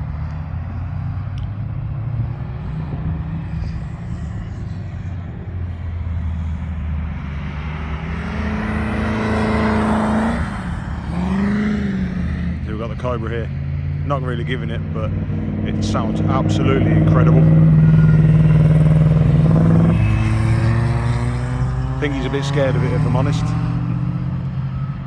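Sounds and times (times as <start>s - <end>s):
race car engines droning: 0.0s - 25.0s
car accelerating past: 1.0s - 12.7s, 13.5s - 25.0s.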